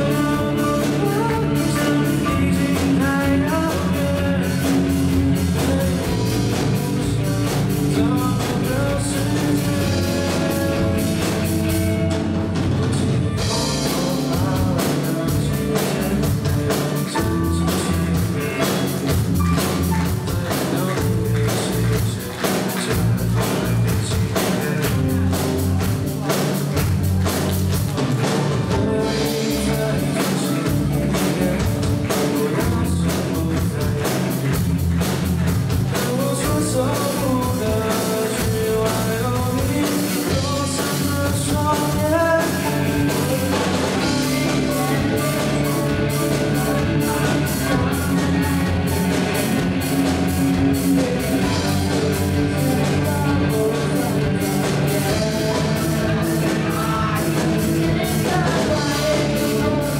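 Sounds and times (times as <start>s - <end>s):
drum kit beat: 0.0s - 59.9s
electric guitars: 0.0s - 59.9s
keyboard: 0.0s - 59.9s.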